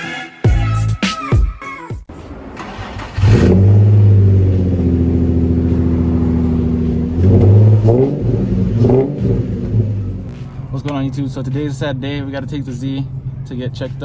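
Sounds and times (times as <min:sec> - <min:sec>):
sports car engine revving: 0:02.2 - 0:14.0.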